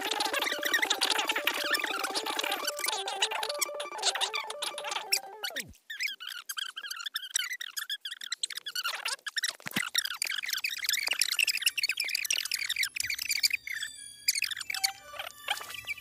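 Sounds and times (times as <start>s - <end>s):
sped-up high-pitched chattering voices: 0.0s - 13.8s.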